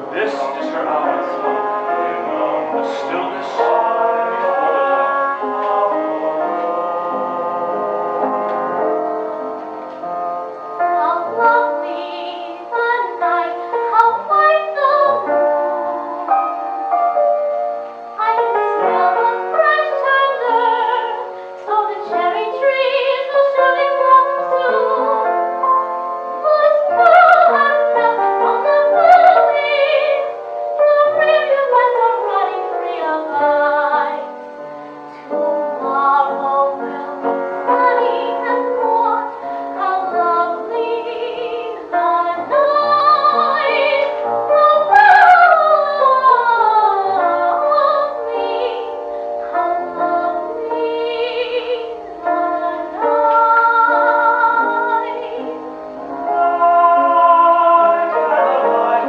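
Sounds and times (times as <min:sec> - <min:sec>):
soprano voice singing: 0:00.0 - 0:16.9, 0:17.7 - 0:59.0
vocal ensemble singing opera: 0:00.0 - 0:59.0.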